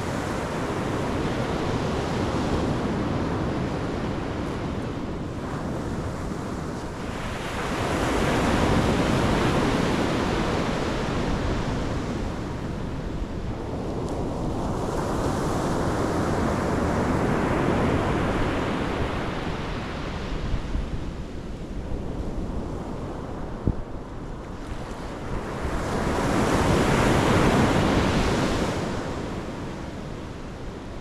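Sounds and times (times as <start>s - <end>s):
waves breaking on shore: 0.0s - 21.5s, 22.3s - 31.0s
wind on microphone: 0.0s - 31.0s.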